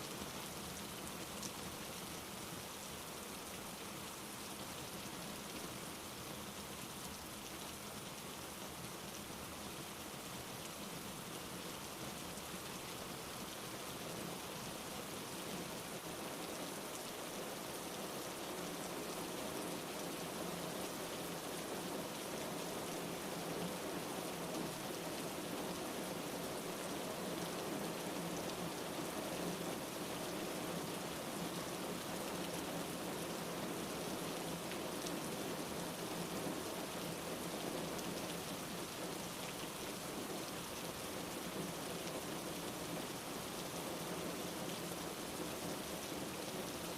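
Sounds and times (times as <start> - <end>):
rain falling on a surface: 0.0 - 46.9.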